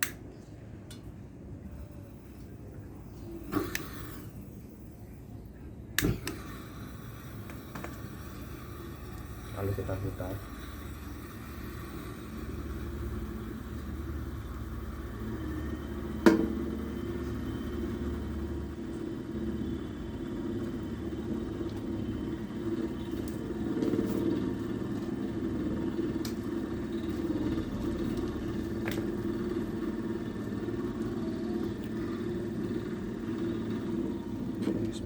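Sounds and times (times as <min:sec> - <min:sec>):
cotton candy machine humming: 0:00.0 - 0:35.0.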